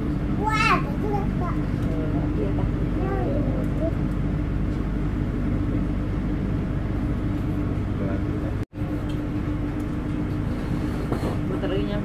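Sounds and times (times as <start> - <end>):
train coach hum and rumble: 0.0 - 12.0.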